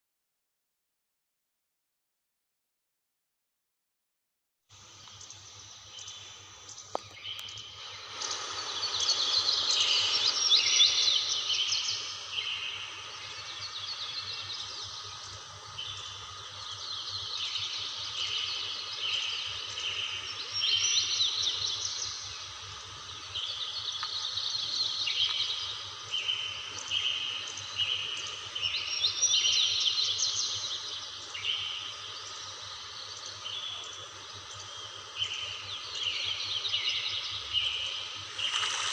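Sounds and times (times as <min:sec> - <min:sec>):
birds chirping and trilling: 0:04.8 - 0:38.9.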